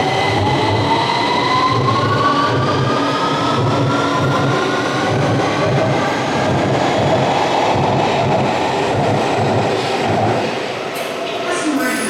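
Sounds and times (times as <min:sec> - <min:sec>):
train rail and running noise: 0:00.0 - 0:12.0.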